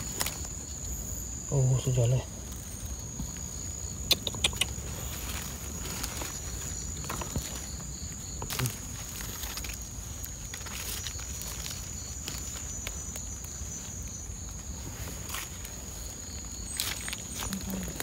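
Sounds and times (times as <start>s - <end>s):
crackling dry undergrowth: 0.0s - 18.0s.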